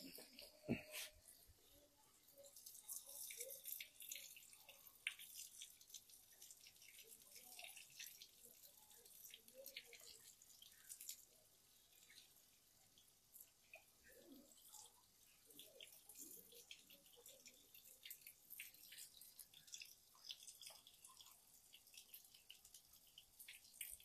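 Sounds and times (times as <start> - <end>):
foam fizzing and dripping: 0.0 - 24.0.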